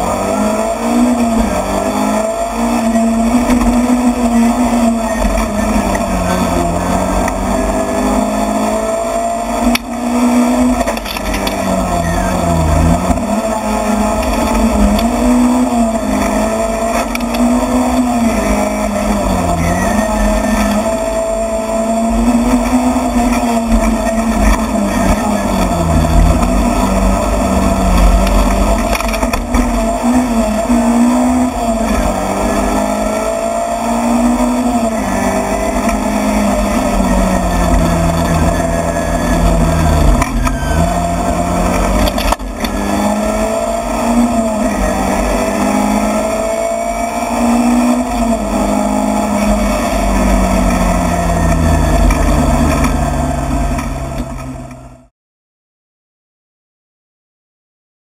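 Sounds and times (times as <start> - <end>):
rally car engine revving: 0.0 - 55.1.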